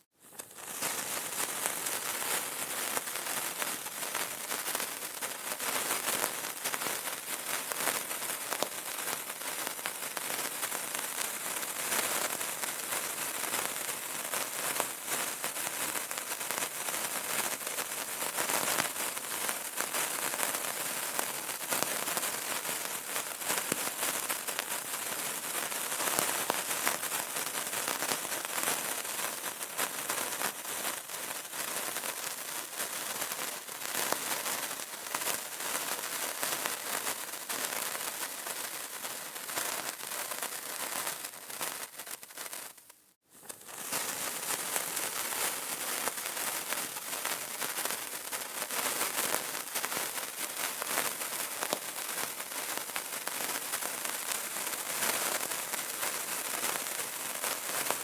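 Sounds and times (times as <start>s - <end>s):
candle crackling: 0.3s - 15.1s, 16.0s - 58.0s.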